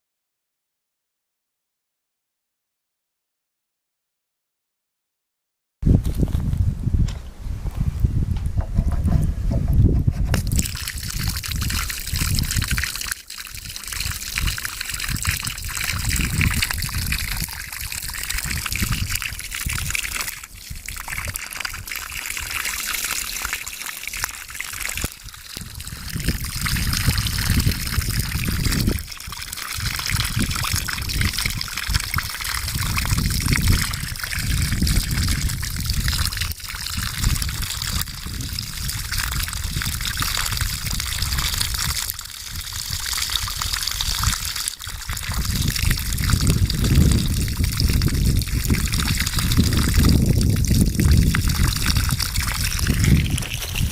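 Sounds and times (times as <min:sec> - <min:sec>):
water running from heater: 0:10.3 - 0:53.9.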